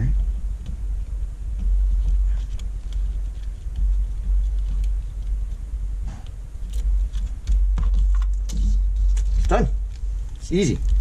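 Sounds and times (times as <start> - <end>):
steady low rumble: 0.0 - 11.0
taps and rustles of tape: 0.0 - 11.0.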